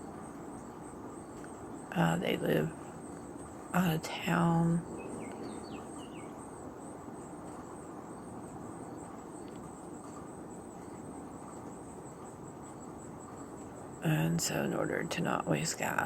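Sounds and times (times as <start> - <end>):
crickets chirping: 0.0 - 16.0
outdoor background hiss: 0.0 - 16.0.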